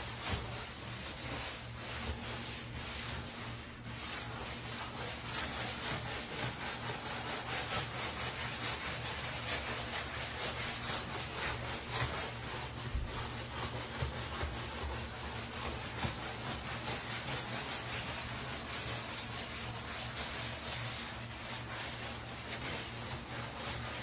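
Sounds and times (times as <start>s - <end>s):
scrubbing wet wooden floor: 0.0s - 24.0s.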